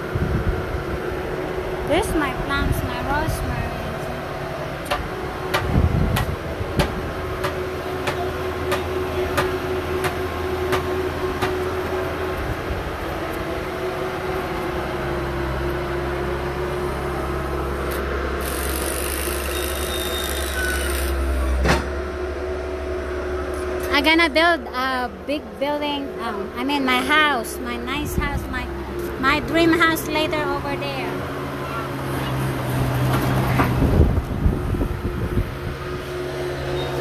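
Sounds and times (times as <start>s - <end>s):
diesel engine droning: 0.0s - 37.0s.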